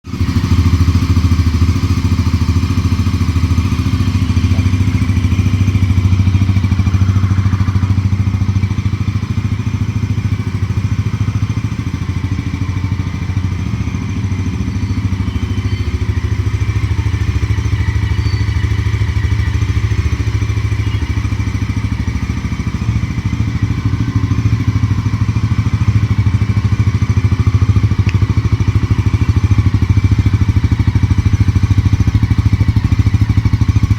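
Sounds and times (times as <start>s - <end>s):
motorcycle engine running steadily: 0.0s - 33.9s.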